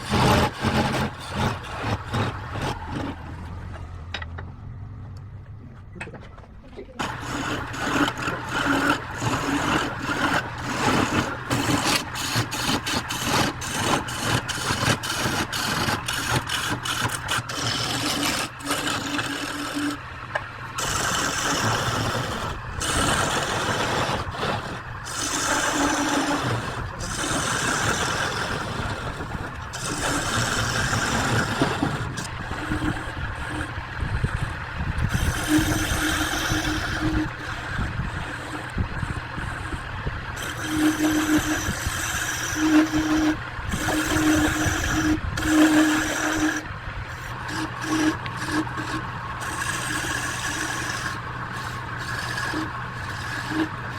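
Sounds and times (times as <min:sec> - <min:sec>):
tool cutting spinning wood: 0:00.0 - 0:04.2, 0:07.0 - 0:53.9
lathe motor hum: 0:00.0 - 0:05.3, 0:07.0 - 0:53.9.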